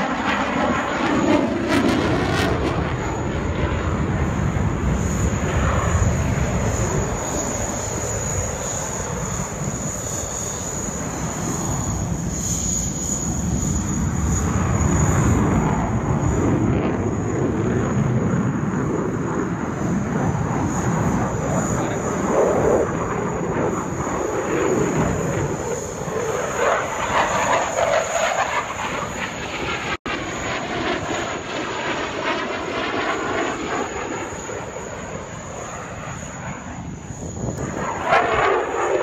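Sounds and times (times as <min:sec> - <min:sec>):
jet engine noise: 0:00.0 - 0:39.0.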